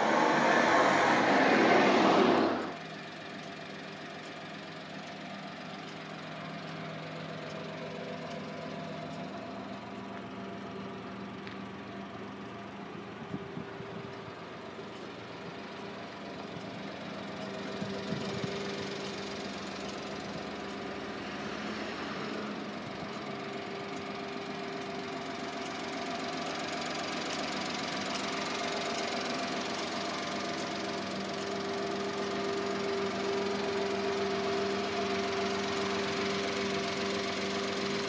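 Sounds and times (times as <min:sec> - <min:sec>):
small truck engine idling: 0:02.3 - 0:38.0.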